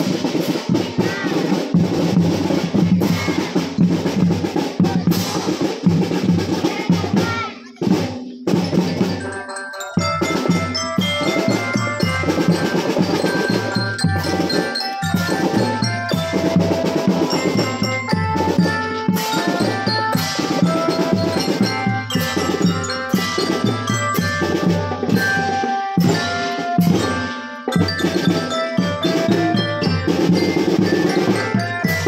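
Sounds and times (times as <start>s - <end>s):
drum band playing: 0.0s - 32.0s.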